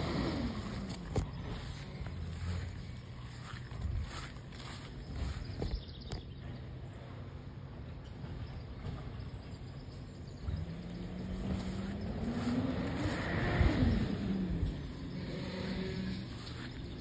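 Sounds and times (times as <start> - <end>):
truck engine running and revving: 0.0 - 17.0.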